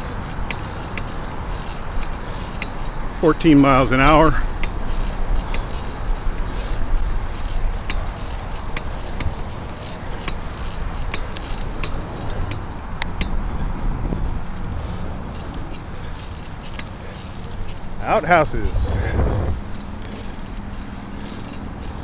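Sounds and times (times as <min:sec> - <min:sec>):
bicycle clicks and rattles: 0:00.0 - 0:18.2, 0:19.6 - 0:22.0
low rumble of wind and road: 0:00.0 - 0:22.0.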